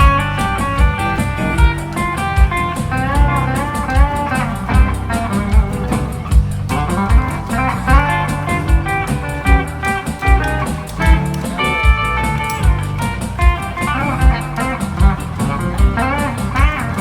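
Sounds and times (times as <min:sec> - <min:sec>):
kick drum beat: 0:00.0 - 0:17.0
lead guitar with bent notes: 0:00.0 - 0:17.0
ticking cymbals: 0:00.0 - 0:17.0.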